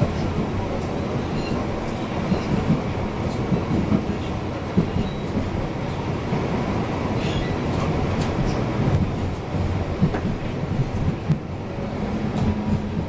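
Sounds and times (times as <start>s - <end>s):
tram rolling rumble: 0.0s - 13.0s.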